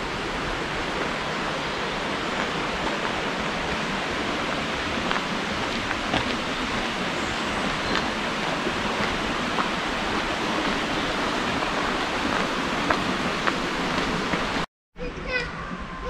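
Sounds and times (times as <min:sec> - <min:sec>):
stream water rushing: 0:00.0 - 0:14.7.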